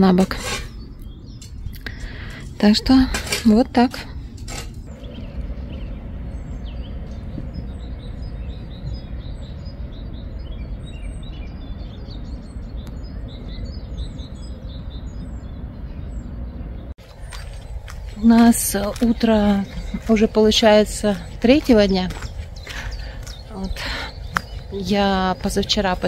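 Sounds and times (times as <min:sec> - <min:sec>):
songbirds chirping: 0:00.0 - 0:26.0
steady low rumble: 0:00.7 - 0:26.0.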